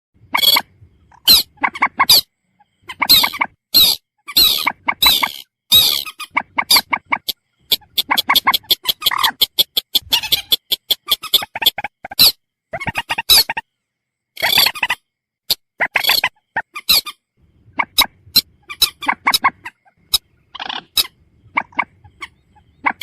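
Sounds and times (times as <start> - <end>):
moorhen calls: 0.3 - 13.6, 17.7 - 23.0.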